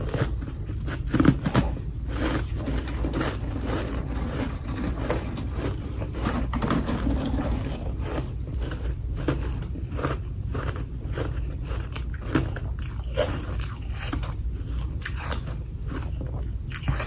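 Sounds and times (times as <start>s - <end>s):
ice being chewed: 0.0s - 17.0s
steady low hum: 0.0s - 17.0s.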